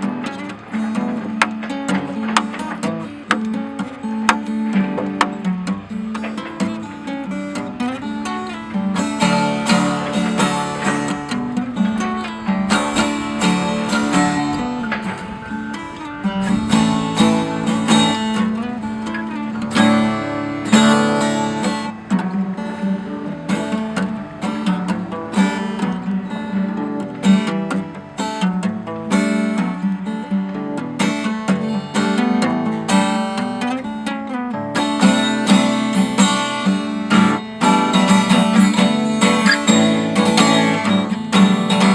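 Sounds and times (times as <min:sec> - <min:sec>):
fingerstyle acoustic guitar: 0:00.0 - 0:41.9.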